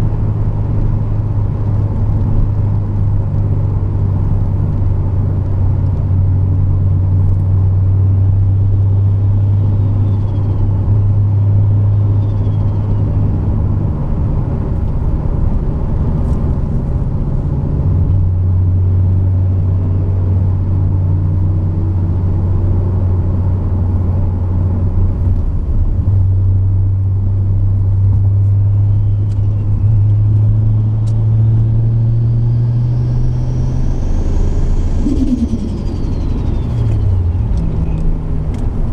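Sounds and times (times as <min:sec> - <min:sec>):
car engine droning: 0:00.0 - 0:38.9
road rumble: 0:00.0 - 0:38.9.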